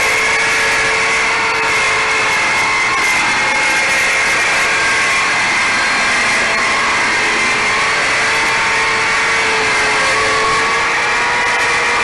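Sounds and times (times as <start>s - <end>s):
circular saw cutting wood: 0.0s - 12.0s.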